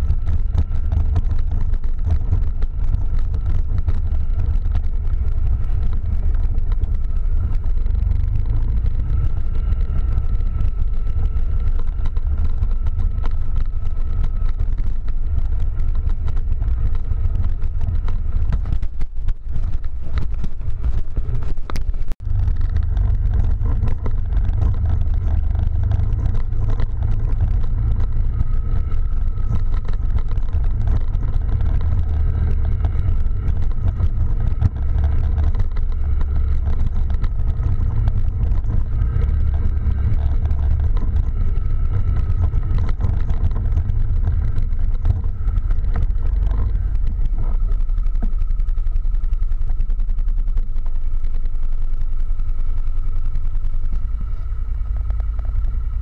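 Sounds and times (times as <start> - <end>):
quad bike engine rumble: 0.0 - 56.0.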